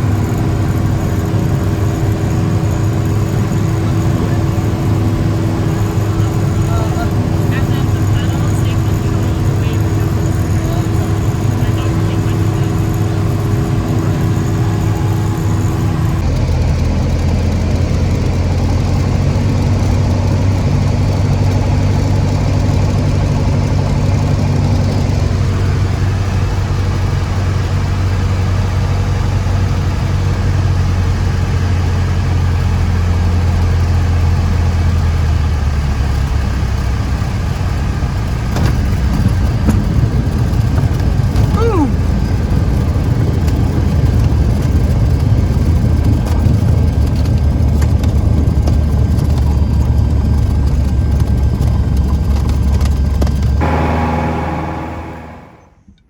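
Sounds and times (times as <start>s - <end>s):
light aircraft engine and propeller: 0.0s - 55.9s.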